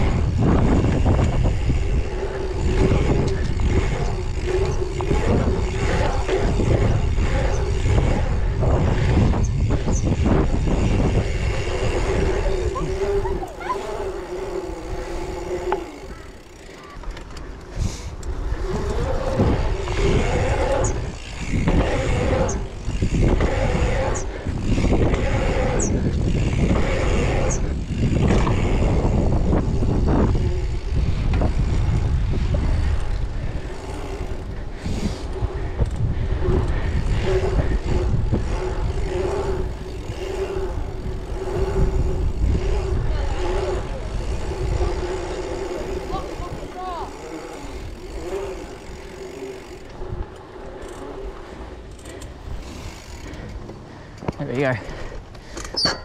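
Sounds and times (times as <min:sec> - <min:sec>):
wind on microphone: 0:00.0 - 0:53.7
bike tyres rolling: 0:00.0 - 0:56.0.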